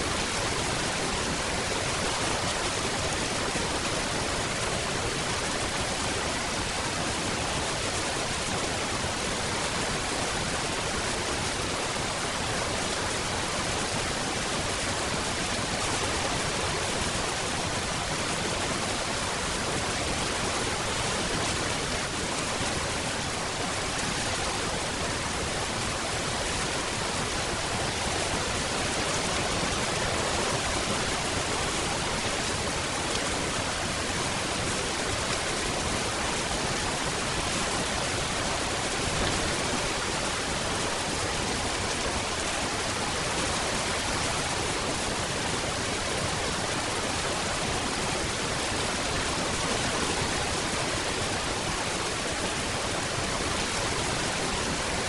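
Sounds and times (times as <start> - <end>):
steady dense rain: 0.0 - 55.0.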